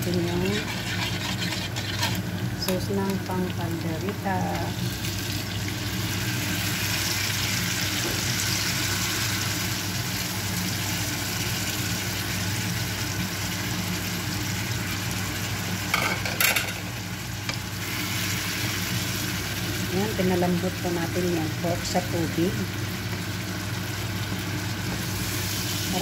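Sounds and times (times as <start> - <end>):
sauce sizzling in frying pan: 0.0 - 26.0
steady low hum: 0.0 - 26.0.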